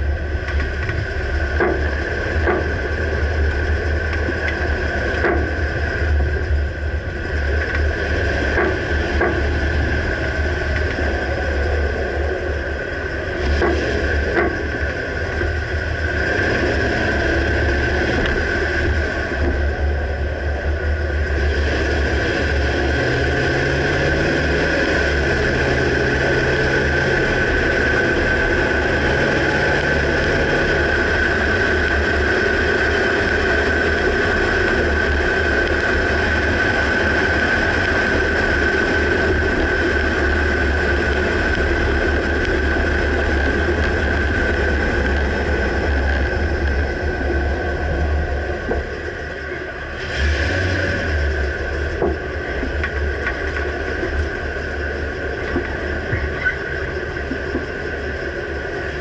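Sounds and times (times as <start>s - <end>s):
pickup truck engine drone: 0.0s - 59.0s
road noise: 0.0s - 59.0s.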